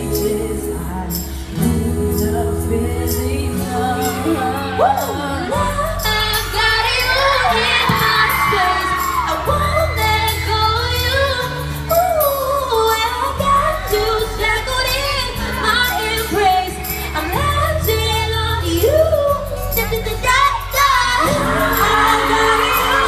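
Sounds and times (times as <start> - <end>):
women singing into microphones: 0.0 - 23.0.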